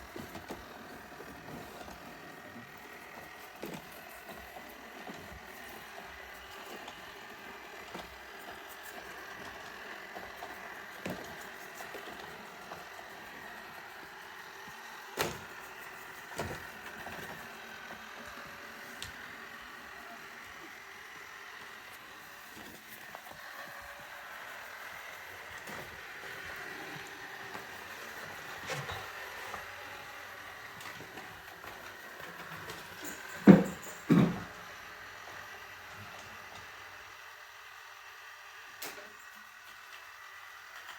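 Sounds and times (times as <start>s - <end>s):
robot vacuum whirring: 0.0s - 40.9s.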